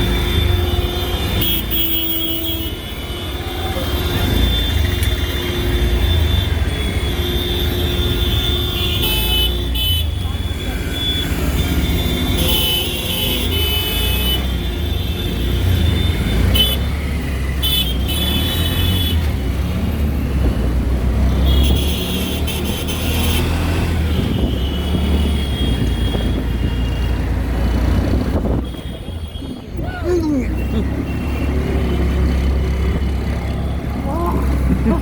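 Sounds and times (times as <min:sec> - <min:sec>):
vehicle horns honking: 0:00.0 - 0:19.4, 0:21.2 - 0:35.0
low rumble of engine and road: 0:00.0 - 0:35.0.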